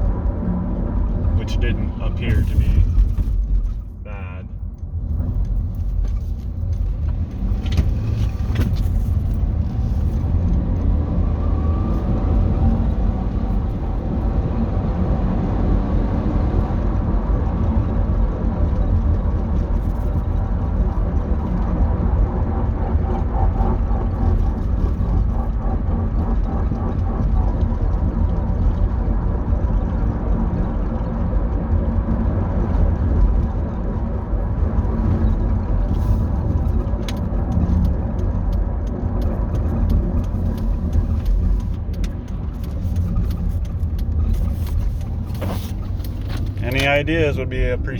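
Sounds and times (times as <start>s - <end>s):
drivetrain and road rumble: 0.0s - 47.9s.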